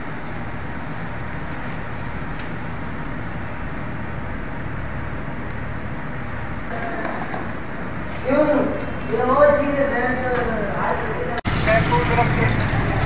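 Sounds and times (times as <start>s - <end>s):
water boiling in pot: 0.0s - 9.0s, 11.5s - 13.0s
stove fire rumbling: 0.0s - 13.0s.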